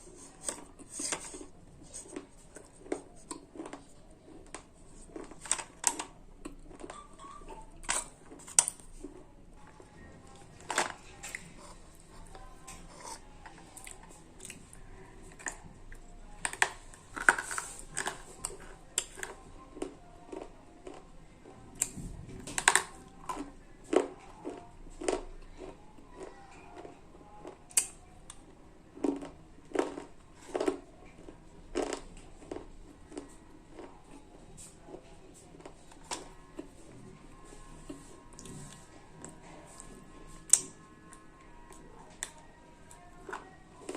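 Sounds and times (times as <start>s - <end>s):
pencils being chewed: 0.0s - 43.9s.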